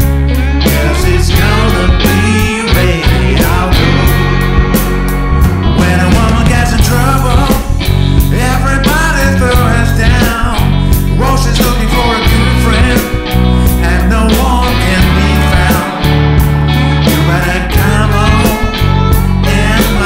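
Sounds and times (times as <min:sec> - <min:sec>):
blues rock band playing: 0:00.0 - 0:20.0.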